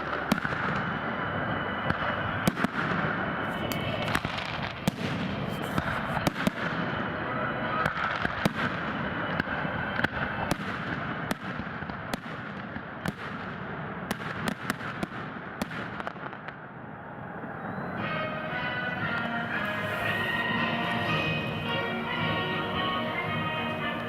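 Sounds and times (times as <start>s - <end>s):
fireworks crackling: 0.0s - 7.1s, 7.7s - 16.7s, 18.0s - 24.0s
fireworks bangs: 0.0s - 24.0s.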